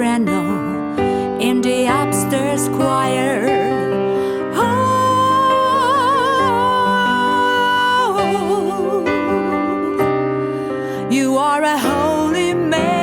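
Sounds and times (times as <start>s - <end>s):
sustained piano: 0.0s - 13.0s
woman singing harmonized vocals: 0.0s - 13.0s.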